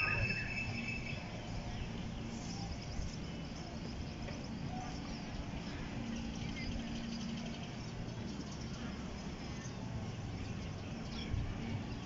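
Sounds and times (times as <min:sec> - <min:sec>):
birds chirping: 0:00.0 - 0:12.0
faint hum: 0:00.0 - 0:12.0
low outdoor rumble: 0:00.0 - 0:12.0.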